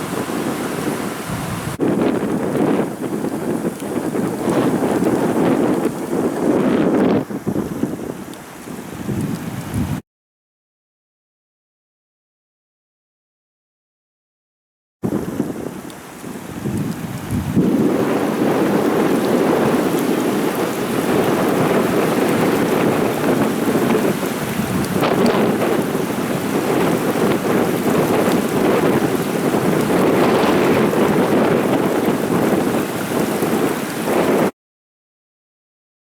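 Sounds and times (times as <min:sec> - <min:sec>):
storm water rushing: 0:00.0 - 0:10.0, 0:15.0 - 0:34.5.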